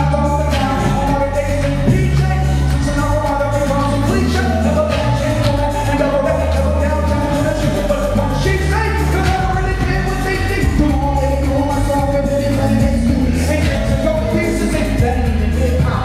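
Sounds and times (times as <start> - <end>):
bass line: 0.0 - 16.0.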